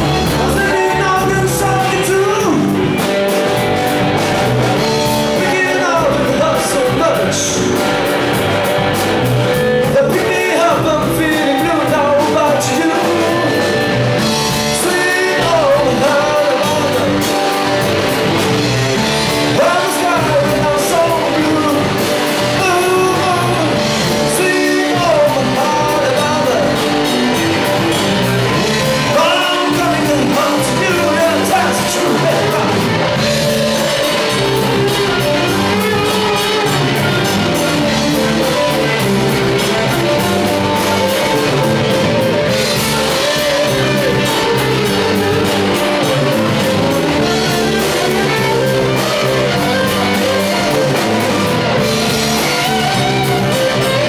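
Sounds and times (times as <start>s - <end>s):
drum kit steady beat: 0.0s - 54.0s
electric guitars: 0.0s - 54.0s
man singing lead: 0.0s - 54.0s.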